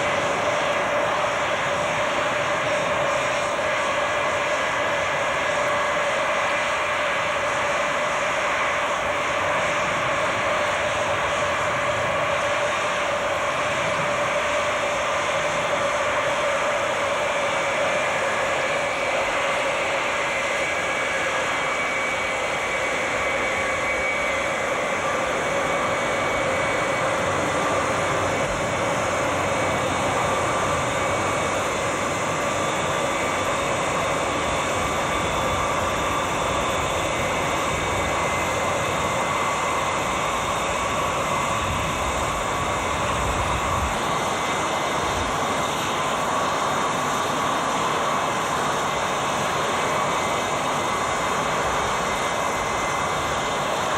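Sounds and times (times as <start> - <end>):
high engine whine: 0.0 - 53.9
jet engines rushing: 0.0 - 53.9.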